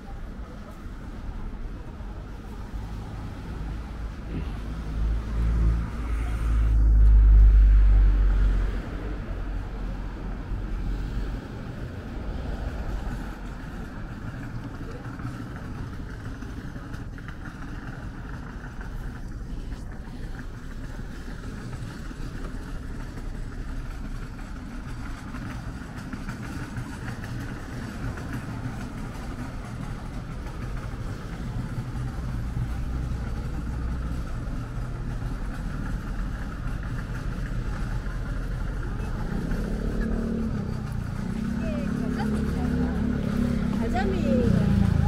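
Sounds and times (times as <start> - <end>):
low rumble of engines: 0.0 - 45.0.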